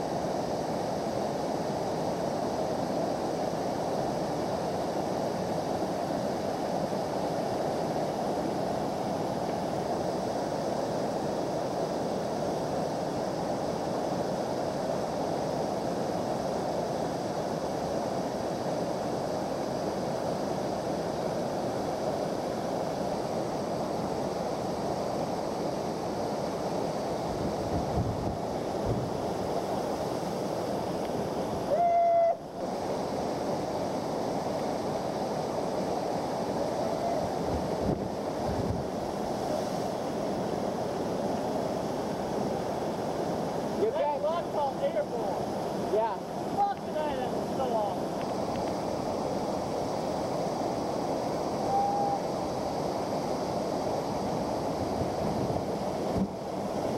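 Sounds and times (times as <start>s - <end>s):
waterfall roaring: 0.1s - 56.9s.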